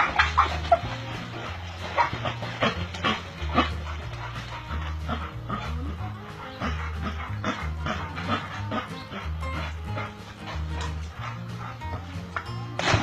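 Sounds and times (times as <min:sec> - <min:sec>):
background music with bass: 0:00.0 - 0:13.0
dogs barking and yipping: 0:00.0 - 0:13.0.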